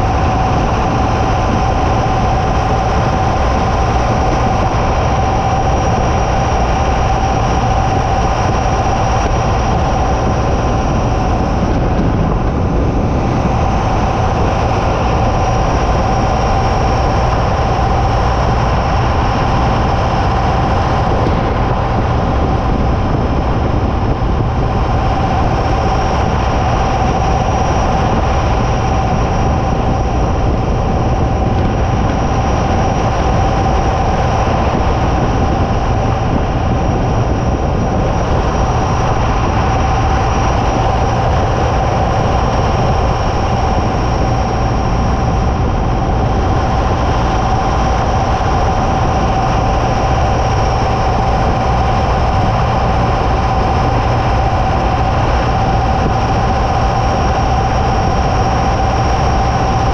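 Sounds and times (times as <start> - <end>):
constant whine: 0.0 - 59.9
road and tyre rush: 0.0 - 59.9.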